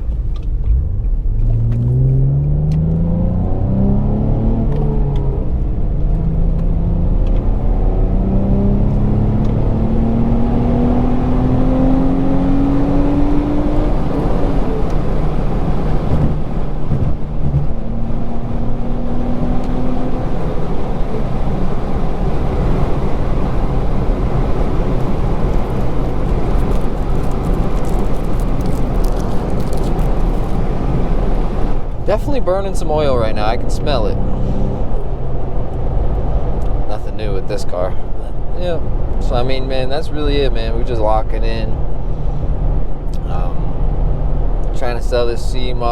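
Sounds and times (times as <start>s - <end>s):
car engine accelerating: 0.0s - 45.9s
road noise: 0.0s - 45.9s.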